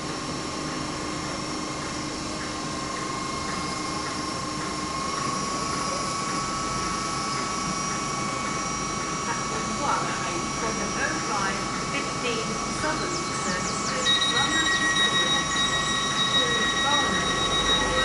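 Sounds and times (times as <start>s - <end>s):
electric train whine: 0.0s - 18.0s
train running noise: 0.0s - 18.0s.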